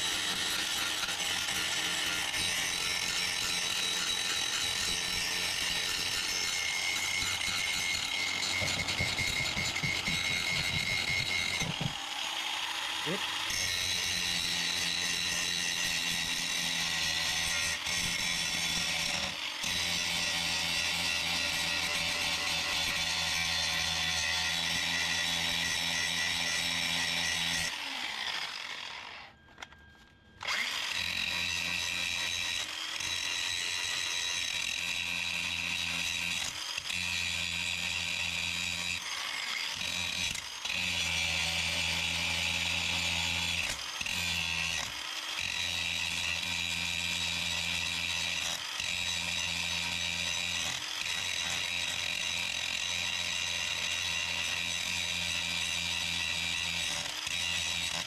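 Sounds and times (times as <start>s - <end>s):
angle grinder grinding metal: 0.0s - 29.8s, 30.4s - 58.0s.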